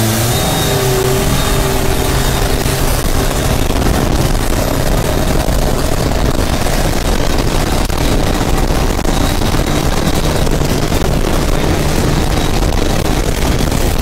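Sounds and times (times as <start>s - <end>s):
boat engines running flat out: 0.0s - 14.0s.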